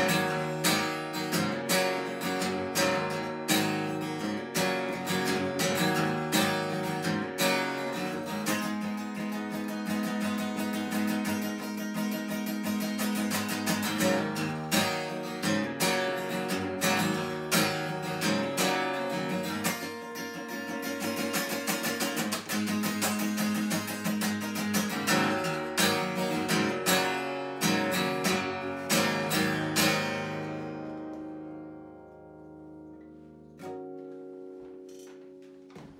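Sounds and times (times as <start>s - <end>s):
acoustic guitar strummed and picked: 0.0s - 35.9s.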